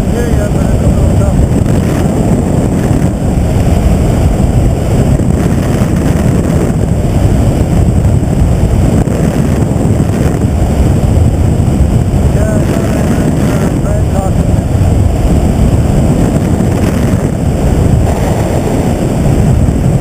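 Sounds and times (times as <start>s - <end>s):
helicopter noise: 0.0s - 20.0s
wind buffeting microphone: 0.0s - 20.0s.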